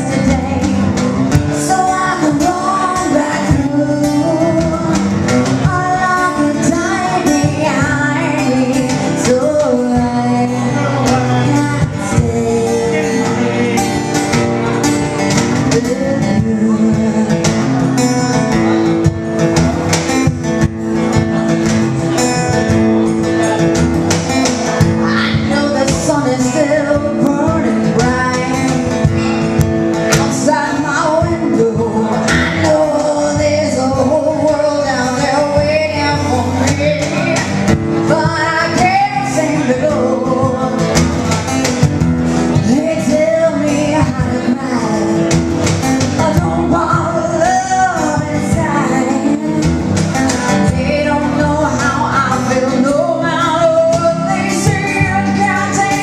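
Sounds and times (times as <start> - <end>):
woman singing: 0.0 - 14.3, 14.9 - 18.5, 24.9 - 56.0
acoustic guitar: 0.0 - 56.0.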